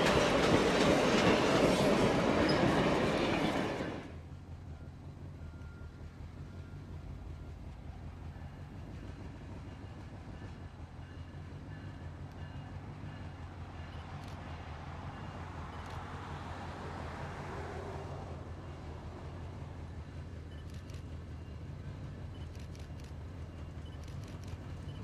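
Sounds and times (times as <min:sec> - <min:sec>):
diesel locomotive engine rumble: 0:00.0 - 0:25.0
train rolling noise: 0:00.0 - 0:25.0.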